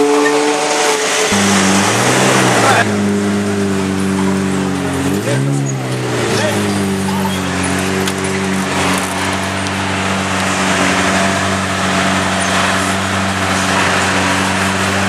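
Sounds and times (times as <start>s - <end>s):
car engine idling: 1.0s - 15.0s.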